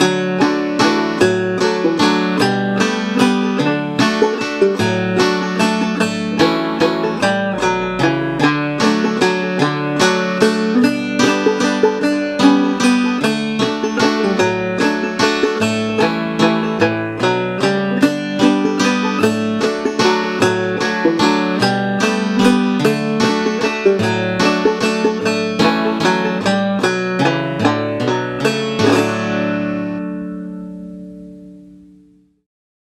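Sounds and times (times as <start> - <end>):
banjo playing a waltz: 0.0 - 32.0
backing guitar track: 0.0 - 32.3.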